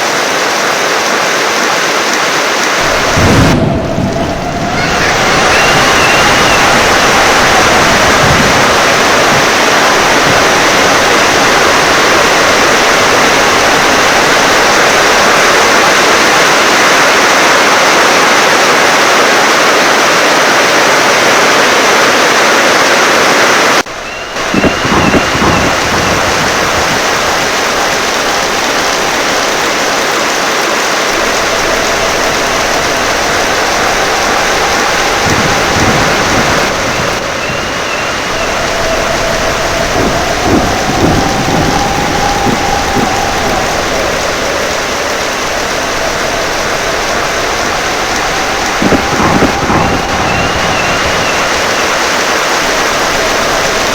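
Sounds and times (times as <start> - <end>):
heavy rain pouring: 0.0 - 53.9
low rumbles of thunder: 2.8 - 17.2, 23.9 - 53.9.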